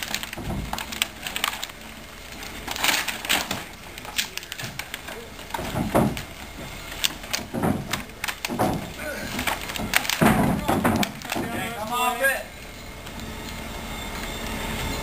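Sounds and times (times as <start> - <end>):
wood scraps crunching underfoot: 0.0 - 13.7.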